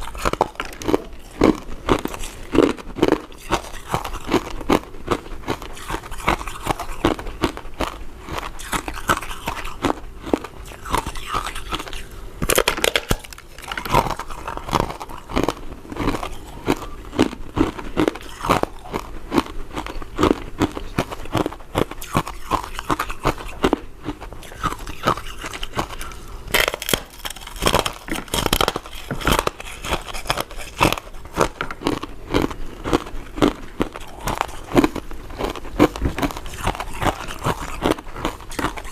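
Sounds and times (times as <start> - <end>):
chewing sticky sweets: 0.0 - 38.9.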